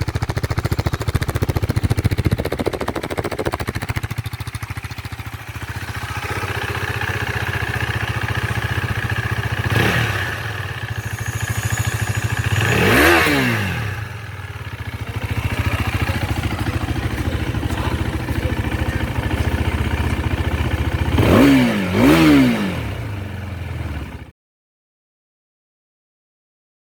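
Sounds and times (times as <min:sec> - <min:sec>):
motorcycle engine idling and revving: 0:00.0 - 0:24.3.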